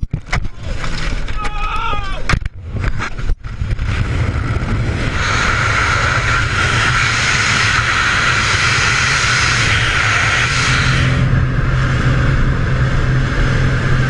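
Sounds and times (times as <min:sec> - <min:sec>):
air rushing over microphone: 0:02.6 - 0:14.0.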